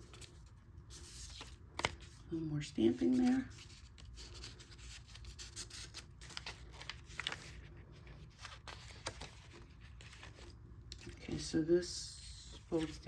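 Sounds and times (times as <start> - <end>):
paper rustling and scratching: 0.0 - 11.5, 12.6 - 13.0.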